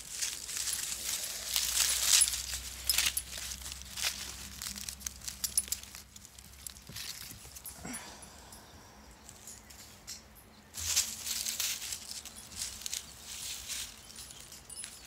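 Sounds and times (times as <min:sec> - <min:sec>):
dry leaves crackling: 0:00.0 - 0:08.2, 0:10.7 - 0:15.0.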